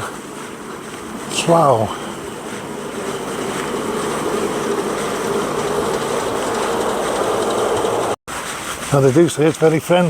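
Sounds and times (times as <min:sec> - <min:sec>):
car engine hum: 0:00.0 - 0:08.2
road noise: 0:00.0 - 0:10.0.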